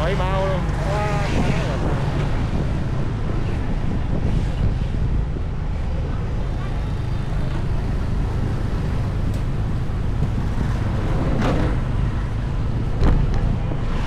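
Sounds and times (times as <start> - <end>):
low rumble of street traffic: 0.0 - 14.0
wind rushing over microphone: 0.0 - 14.0.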